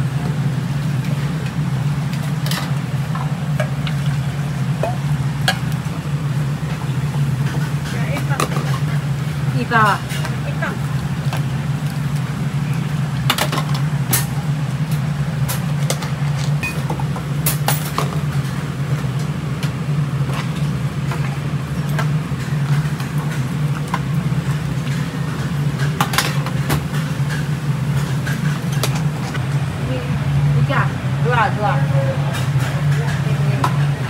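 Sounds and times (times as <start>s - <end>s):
kitchen hum: 0.0s - 34.0s.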